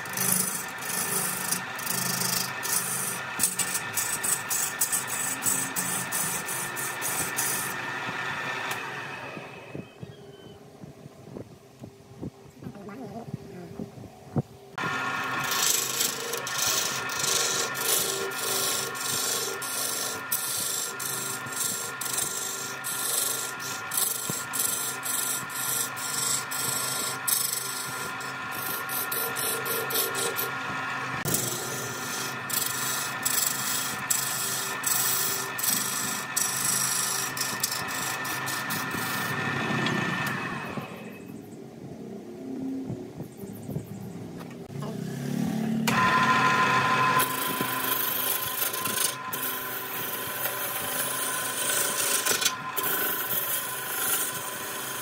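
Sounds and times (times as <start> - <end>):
turning tool scraping wood: 0.0 - 9.8, 14.8 - 41.2, 45.8 - 55.0
wood lathe motor whine: 0.0 - 10.8, 14.8 - 41.4, 44.8 - 55.0.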